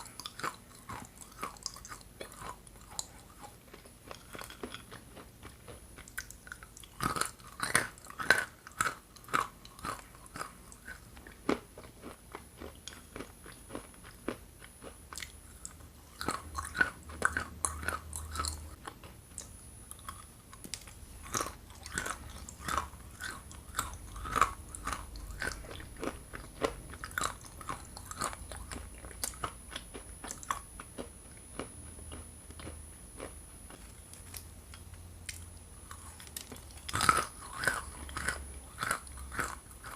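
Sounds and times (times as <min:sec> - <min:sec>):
crunchy chewing of hard clay: 0:00.0 - 0:39.9.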